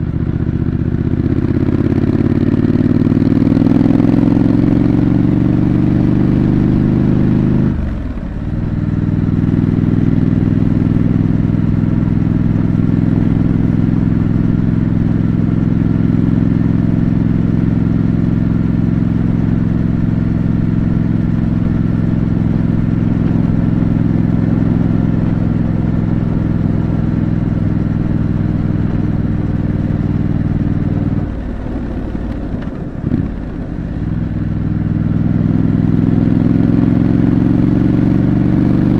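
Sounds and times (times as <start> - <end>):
motorcycle engine pulling steadily: 0.0 - 38.9.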